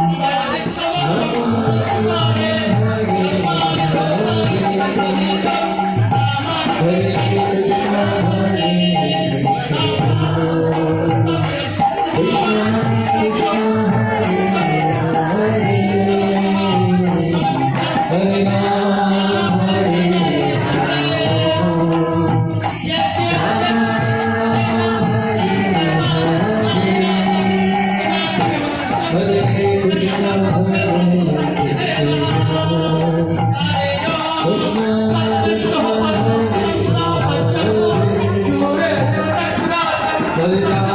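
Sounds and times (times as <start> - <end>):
devotional chanting: 0.0 - 40.9
light steady percussion: 0.0 - 40.9.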